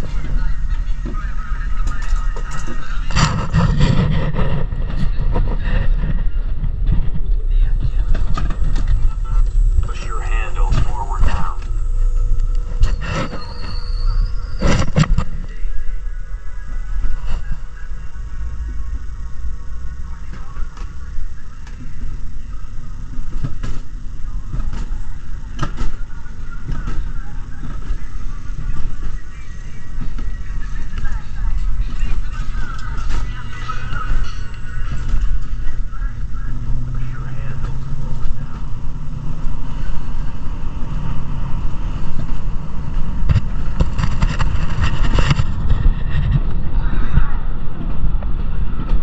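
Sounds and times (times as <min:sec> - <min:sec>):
sled rolling on steel rail: 0:00.0 - 0:09.8, 0:11.6 - 0:49.0.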